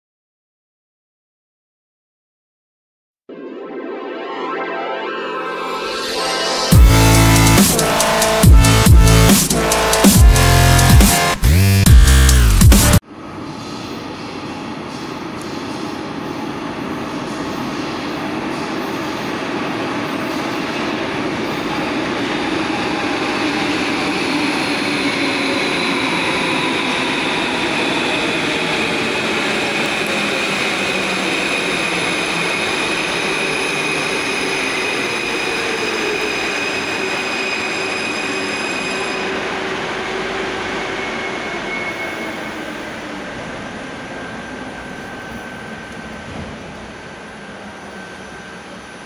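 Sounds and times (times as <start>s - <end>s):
metro train rumble: 5.4s - 49.0s.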